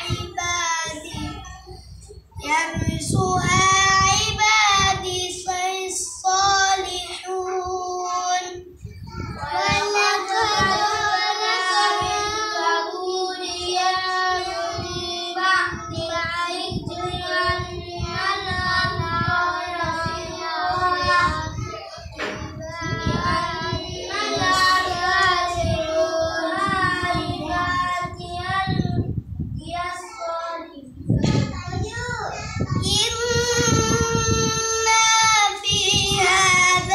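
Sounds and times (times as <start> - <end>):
boy reciting in melodic style: 0.0 - 36.9.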